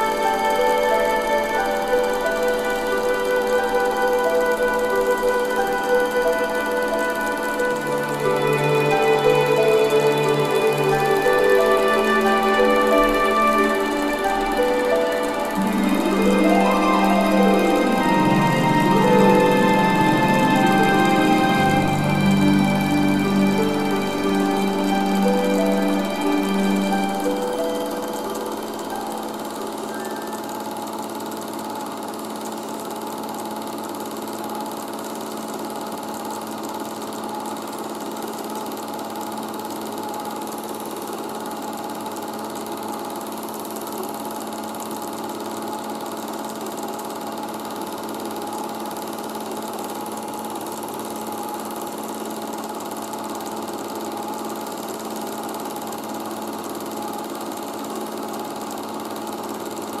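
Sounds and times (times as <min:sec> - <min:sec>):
film projector whirring: 0:00.0 - 1:00.0.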